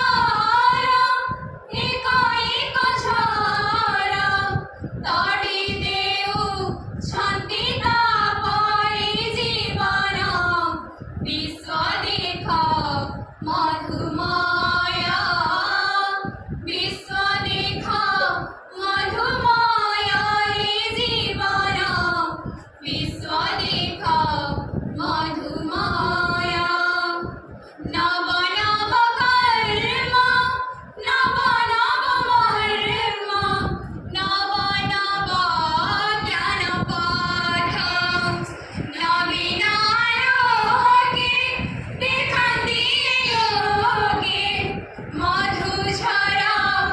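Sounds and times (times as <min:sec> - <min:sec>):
young women singing together: 0:00.0 - 0:46.9.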